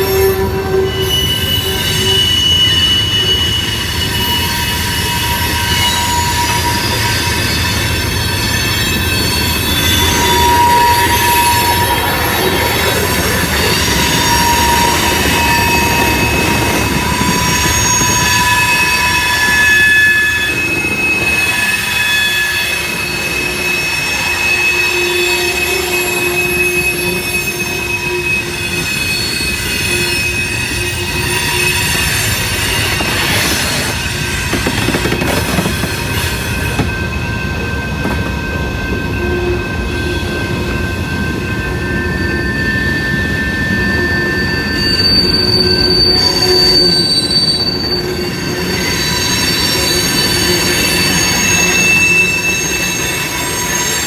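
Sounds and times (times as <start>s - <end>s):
freight cars rumbling on rails: 0.0s - 46.8s
train wheels squealing: 0.0s - 54.0s.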